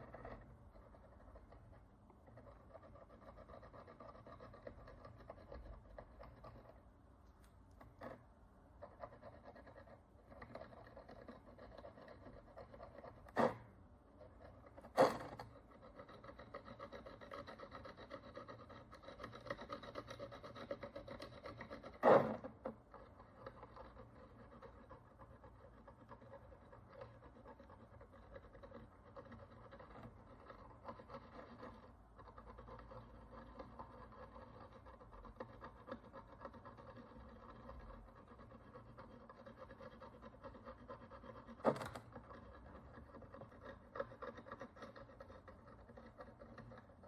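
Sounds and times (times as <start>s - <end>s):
rubbing and scraping on coin: 0.0s - 6.8s, 8.8s - 47.0s.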